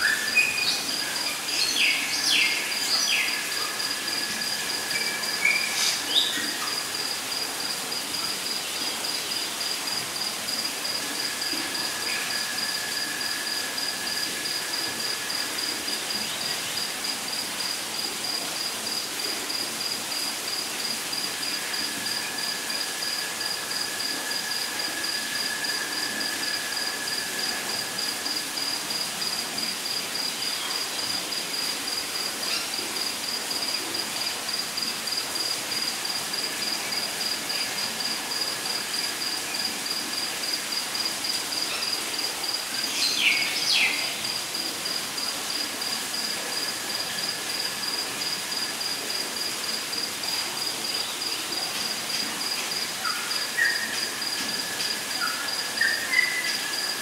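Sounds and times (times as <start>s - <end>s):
high-pitched insect trill: 0.0s - 57.0s
low insect drone: 0.0s - 57.0s.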